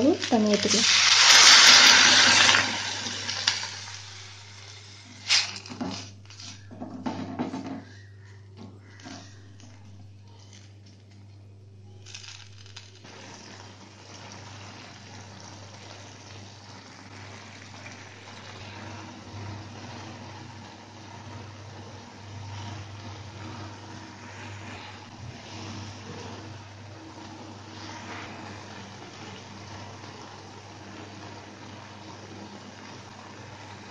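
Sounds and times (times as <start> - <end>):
water and leaves sizzling and bubbling: 0.0 - 6.6, 12.0 - 33.9.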